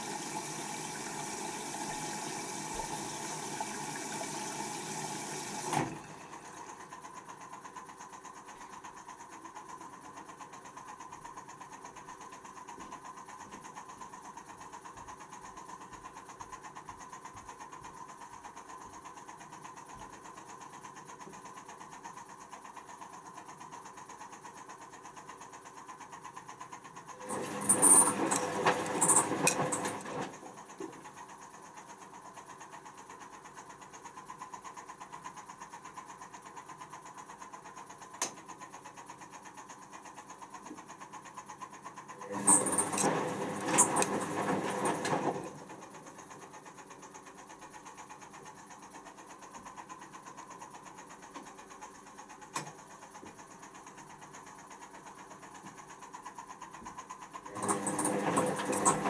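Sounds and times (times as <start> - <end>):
quiet steady machine sound: 0.0 - 59.0.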